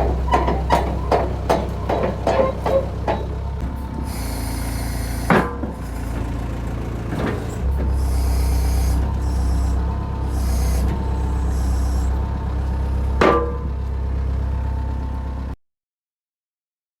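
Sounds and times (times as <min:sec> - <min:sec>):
excavator engine drone: 0:00.0 - 0:15.6.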